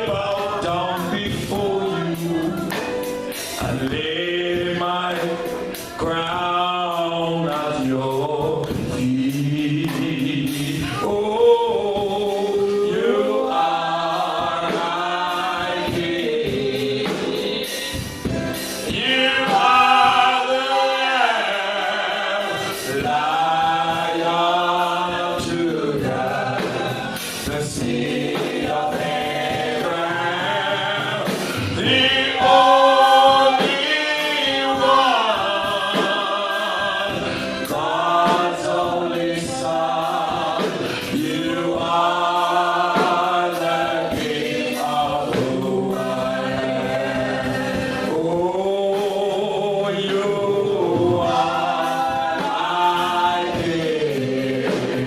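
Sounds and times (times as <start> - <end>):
group singing worship song: 0.0 - 55.0.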